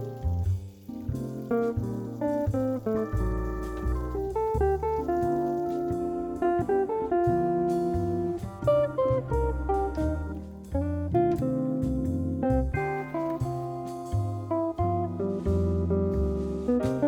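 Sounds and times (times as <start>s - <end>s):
acoustic guitar music with bass: 0.0s - 17.0s.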